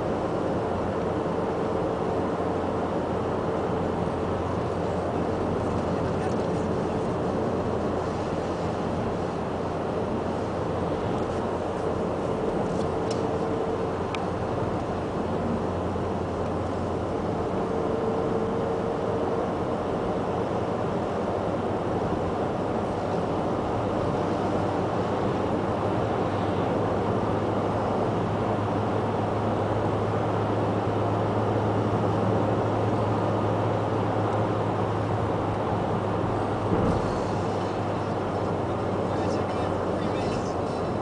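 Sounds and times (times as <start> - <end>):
car engine and tyre noise: 0.0 - 41.0.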